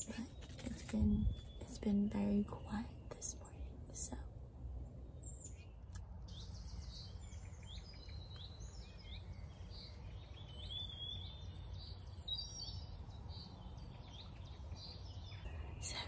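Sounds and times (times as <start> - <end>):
songbirds singing: 0.0 - 16.0
steady low rumble: 0.0 - 16.0.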